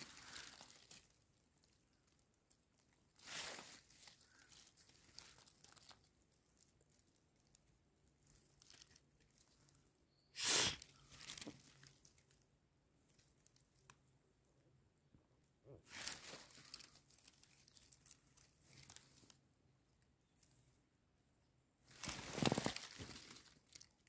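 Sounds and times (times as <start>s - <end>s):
leaves rustling and crinkling: 0.0s - 14.1s, 15.8s - 19.5s, 21.8s - 24.0s.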